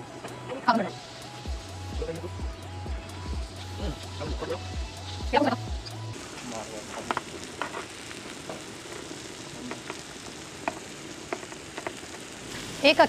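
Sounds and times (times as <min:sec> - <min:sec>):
food sizzling on grill plate: 0:00.0 - 0:13.0.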